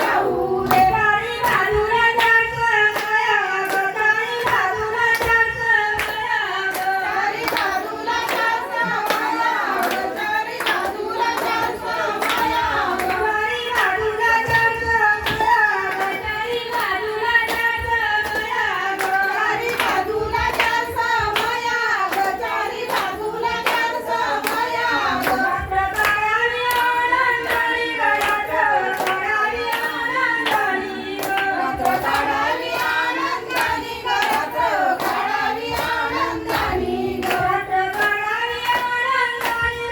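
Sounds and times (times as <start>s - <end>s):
hand clapping: 0.0s - 39.9s
women singing: 0.0s - 39.9s.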